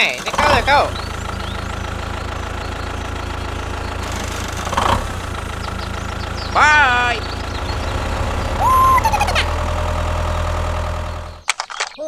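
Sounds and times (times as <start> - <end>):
tractor engine running: 0.0 - 11.5.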